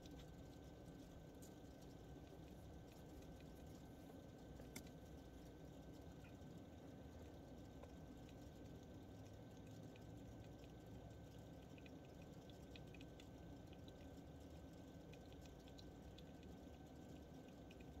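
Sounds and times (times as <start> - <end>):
low room hum: 0.0 - 18.0
squirrel suckling wet clicks: 0.0 - 18.0.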